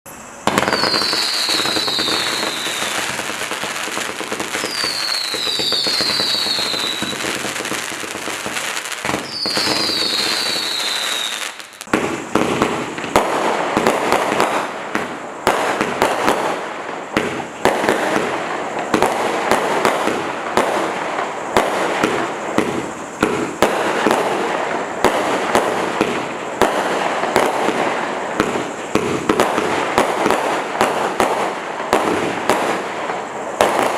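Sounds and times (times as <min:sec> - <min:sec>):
firework falling whistles: 0:00.1 - 0:33.9
firework hissing: 0:00.1 - 0:33.9
firework shots and crackling: 0:00.1 - 0:33.9.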